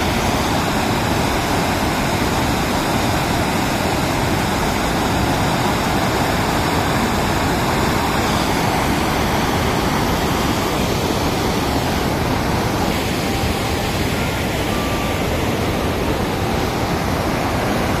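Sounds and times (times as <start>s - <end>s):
water rushing over spillway: 0.0s - 18.0s.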